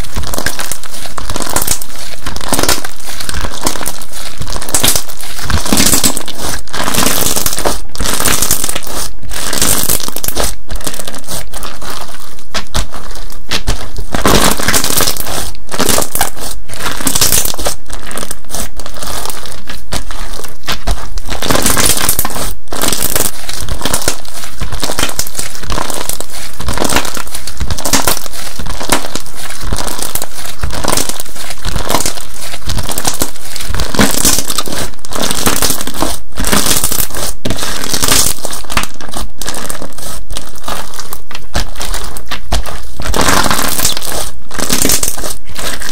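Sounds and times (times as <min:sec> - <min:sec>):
slime crackling and popping: 0:00.0 - 0:45.9.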